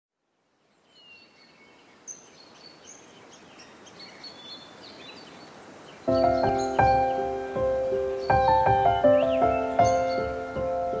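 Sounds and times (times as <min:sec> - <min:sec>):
background hiss: 0:00.2 - 0:11.0
birds chirping and whistling: 0:00.9 - 0:11.0.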